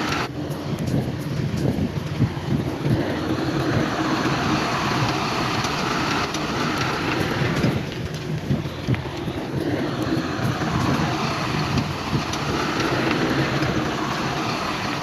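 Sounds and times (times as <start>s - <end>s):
diesel earthmoving machinery rumbling: 0.0s - 15.0s.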